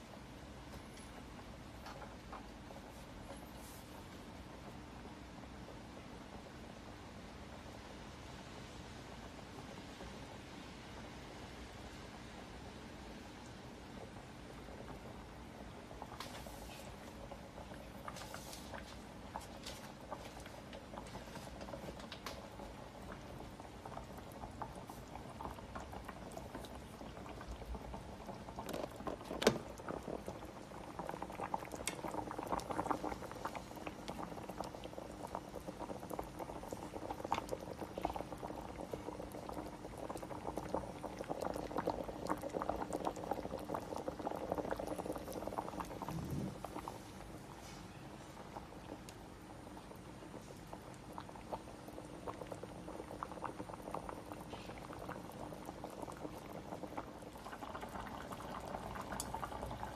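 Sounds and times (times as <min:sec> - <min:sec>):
soup bubbling at a boil: 0:00.0 - 0:59.9.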